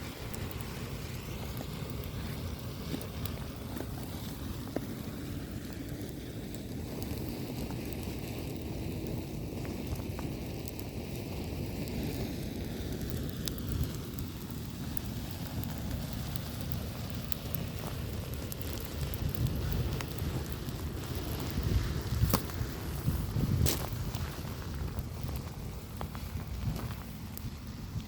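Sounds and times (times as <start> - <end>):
flame hissing and rushing: 0.0 - 28.0
small crackles and pops: 0.0 - 28.0.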